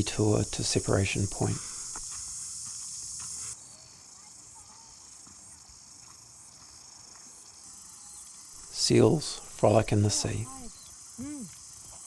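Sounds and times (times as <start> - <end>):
insects shrilling: 0.0 - 5.9, 7.5 - 12.0.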